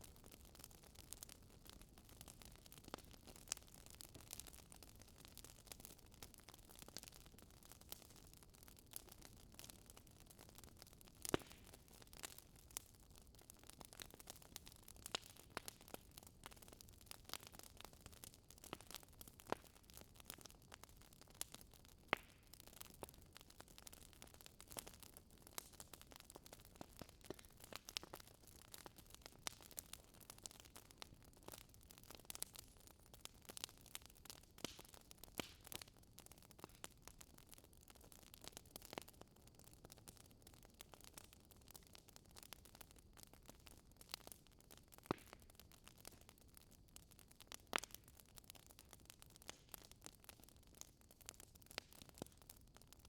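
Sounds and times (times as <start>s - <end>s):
fireplace fire crackling: 0.0s - 53.0s.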